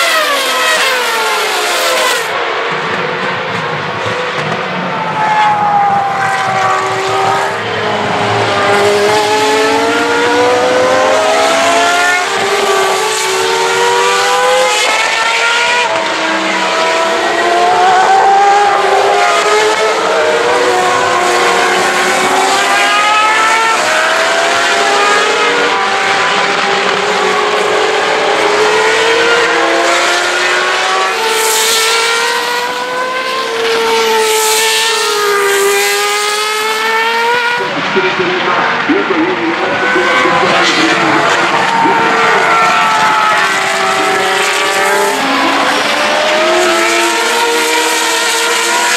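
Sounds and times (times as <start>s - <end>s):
race car engines passing: 0.0s - 48.9s.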